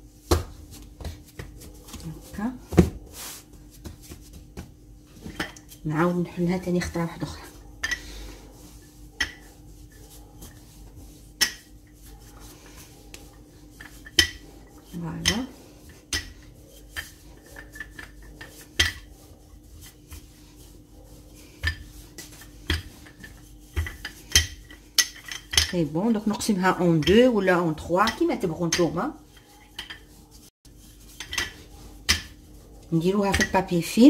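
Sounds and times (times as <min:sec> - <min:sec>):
rolling pin rolling dough: 0:00.0 - 0:34.0.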